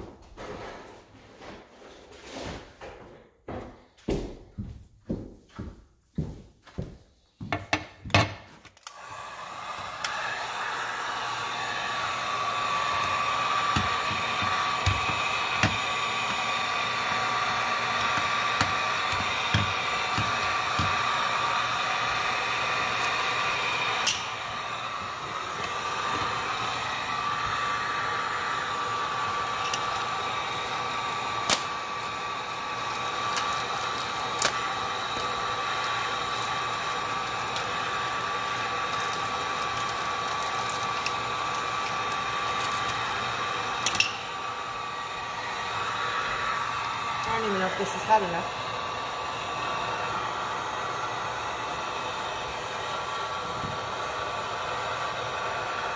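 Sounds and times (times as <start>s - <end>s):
heat gun blowing with whine: 7.9s - 55.9s.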